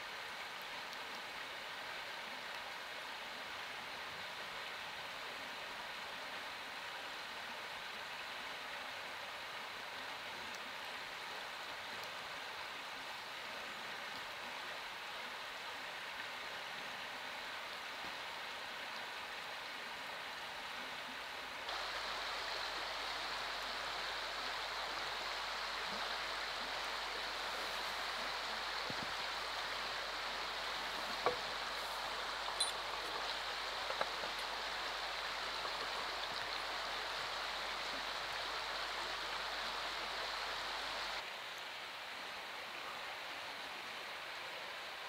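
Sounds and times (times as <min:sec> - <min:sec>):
rushing water: 0:00.0 - 0:45.0.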